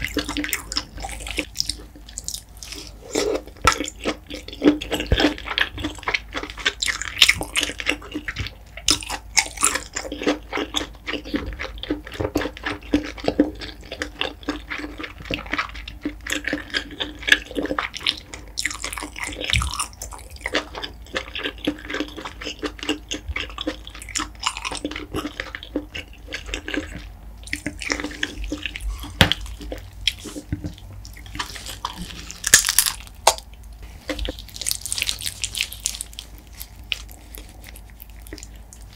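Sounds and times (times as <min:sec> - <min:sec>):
wet chewing mouth sounds: 0:00.0 - 0:38.9.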